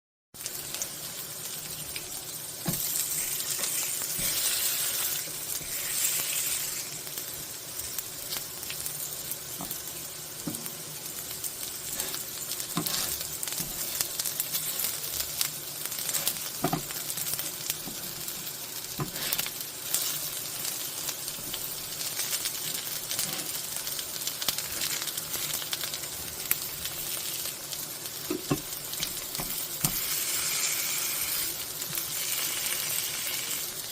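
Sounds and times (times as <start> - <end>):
pancakes sizzling in oil: 0.4 - 33.9.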